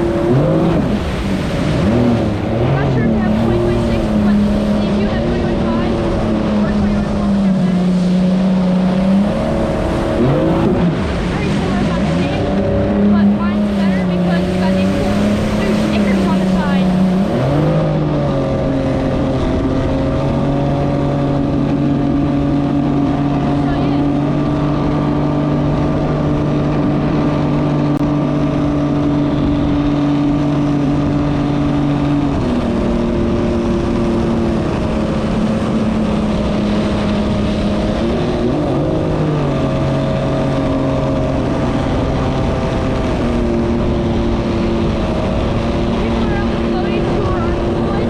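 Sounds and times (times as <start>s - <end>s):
jet ski engine running: 0.0s - 48.0s
rushing water: 0.0s - 48.0s
wind: 0.0s - 48.0s.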